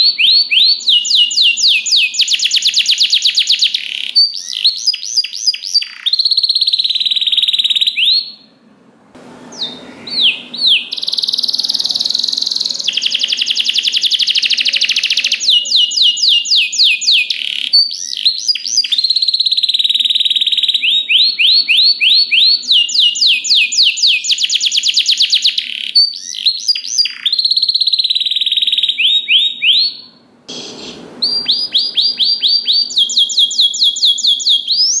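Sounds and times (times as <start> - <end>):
canary singing trills: 0.0 - 8.6, 9.4 - 35.0.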